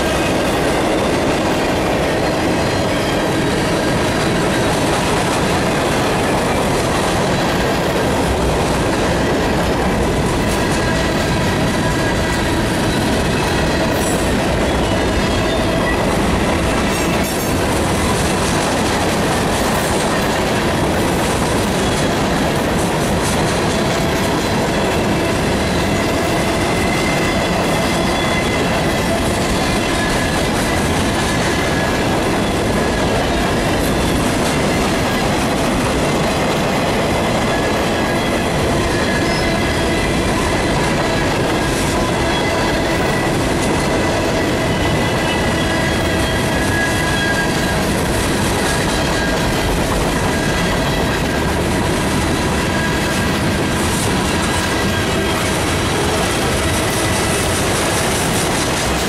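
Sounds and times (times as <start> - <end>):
freight train rumbling past: 0.0 - 59.0
train wheels squealing: 0.0 - 59.0.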